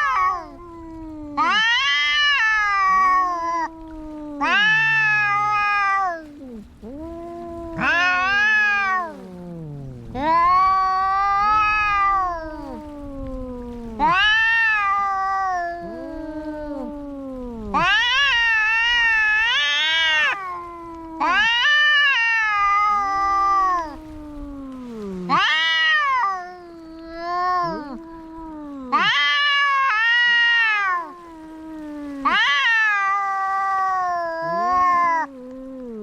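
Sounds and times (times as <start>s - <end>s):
cat low wavering moan: 0.0s - 36.0s
cat yowling: 0.0s - 36.0s.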